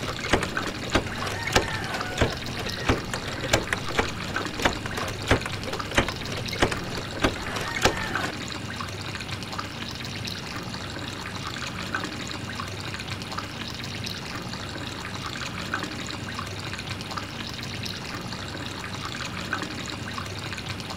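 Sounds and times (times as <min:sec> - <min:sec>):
water pouring from pump spout: 0:00.0 - 0:20.9.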